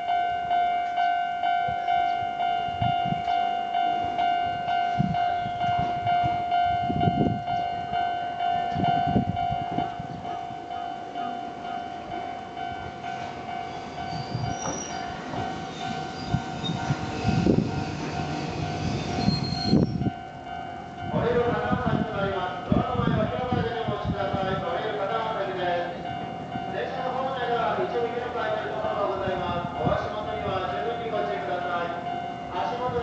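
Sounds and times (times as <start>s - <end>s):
electric train running past: 0.0s - 33.0s
level crossing warning bell: 0.0s - 33.0s.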